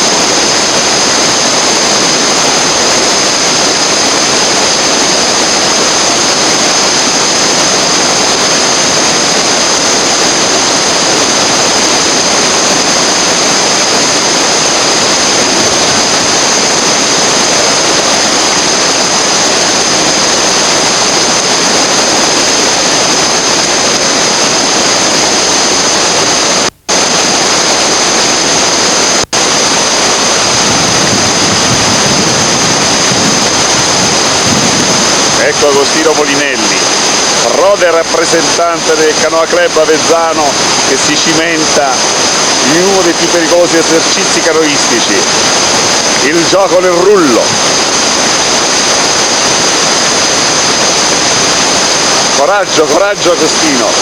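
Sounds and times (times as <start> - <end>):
river rapids roaring: 0.0 - 54.0.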